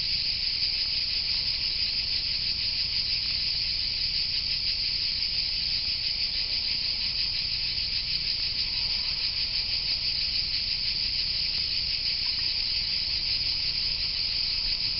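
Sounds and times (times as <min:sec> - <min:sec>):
insects singing: 0:00.0 - 0:14.9.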